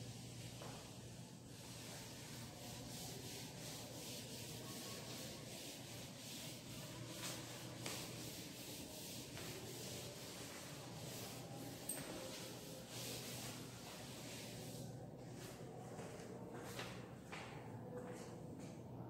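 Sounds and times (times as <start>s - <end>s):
duster scrubbing chalkboard: 0.2s - 17.0s.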